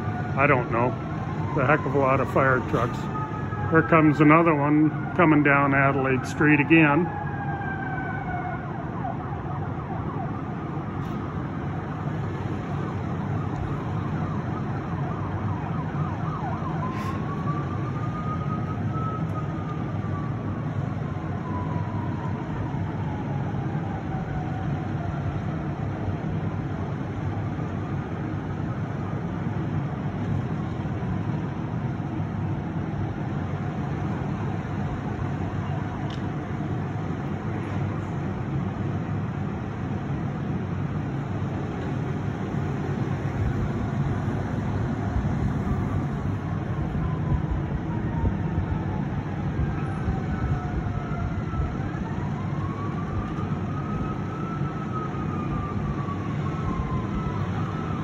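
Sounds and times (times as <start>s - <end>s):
fire truck siren wailing: 0.0s - 58.0s
low rumble of engines: 0.0s - 58.0s.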